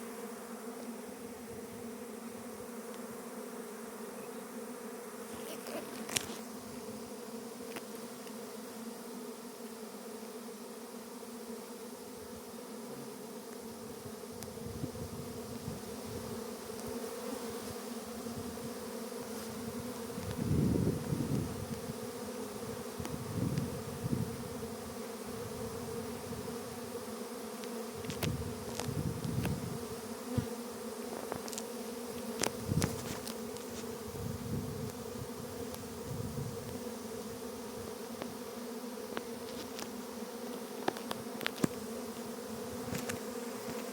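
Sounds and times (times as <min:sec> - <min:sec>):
bee buzzing: 0:00.0 - 0:43.9.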